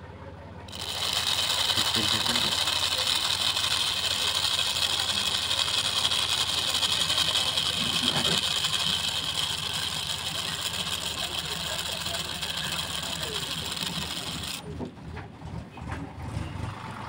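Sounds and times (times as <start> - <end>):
toy motor whirring: 0.7 - 14.7.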